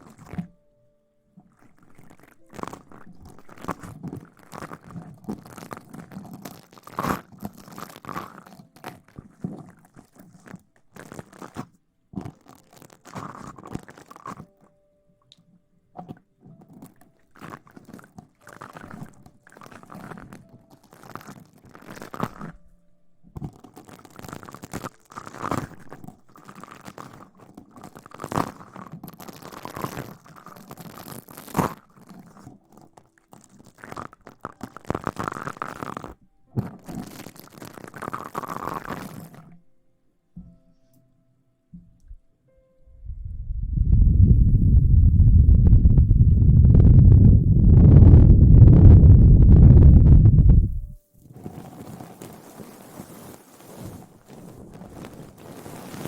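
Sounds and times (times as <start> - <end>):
crinkly rustling: 1.4 - 14.7, 16.4 - 22.6, 23.4 - 39.6, 45.4 - 56.0.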